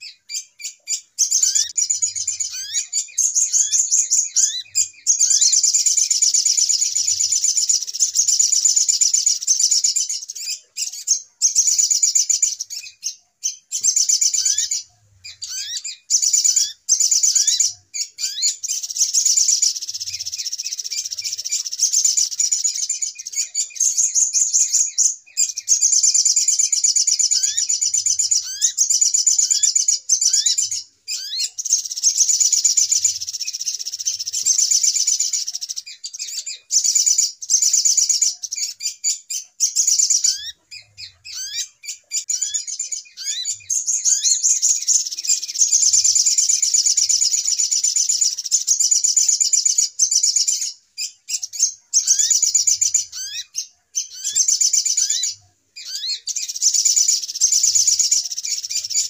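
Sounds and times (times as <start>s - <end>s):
sunbirds twittering and trilling: 0.0s - 59.0s.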